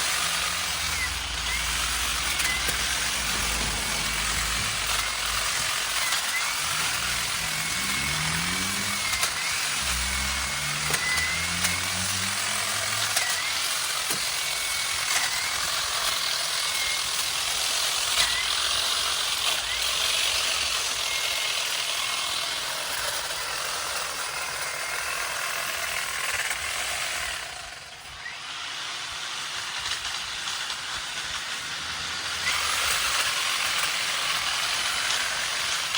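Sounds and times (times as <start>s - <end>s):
hedge trimmer cutting branches: 0.0s - 35.9s.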